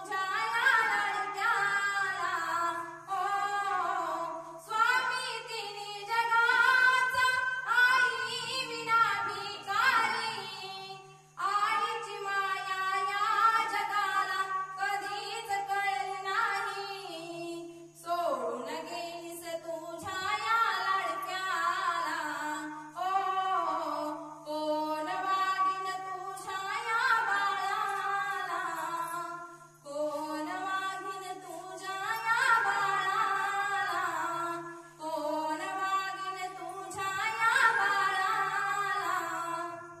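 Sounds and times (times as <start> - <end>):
woman singing slow song: 0.0 - 40.0.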